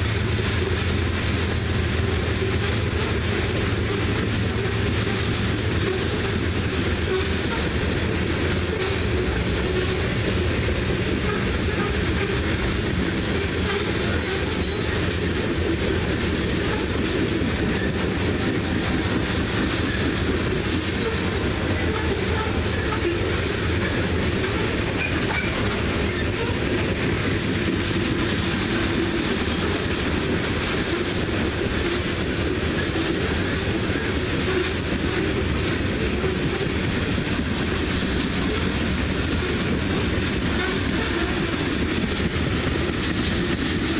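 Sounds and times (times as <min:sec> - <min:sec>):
train cars rolling past: 0:00.0 - 0:43.9.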